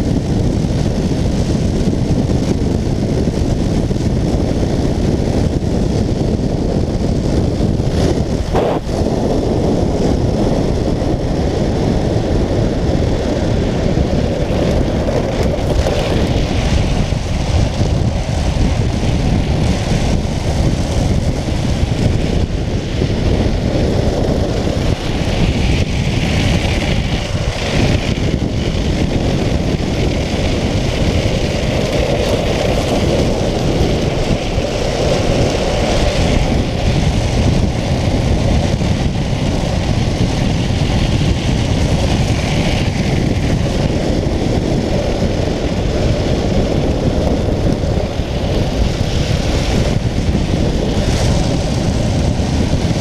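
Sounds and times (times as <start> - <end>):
tyres rolling on asphalt: 0.0 - 53.0
wind buffeting microphone: 0.0 - 53.0.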